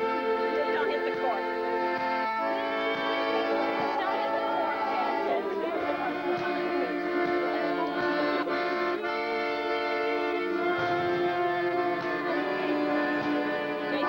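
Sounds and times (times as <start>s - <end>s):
accordion playing a tune: 0.0s - 14.0s.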